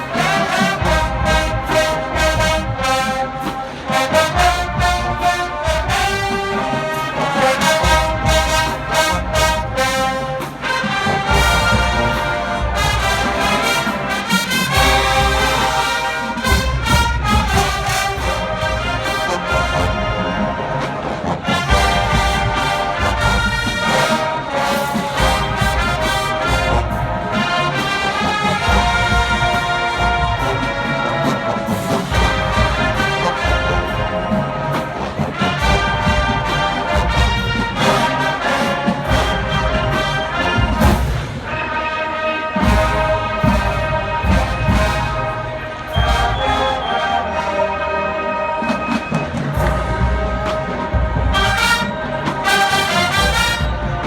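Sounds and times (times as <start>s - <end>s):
steady drum beat: 0.0s - 47.7s, 48.8s - 54.0s
brass playing: 0.0s - 54.0s.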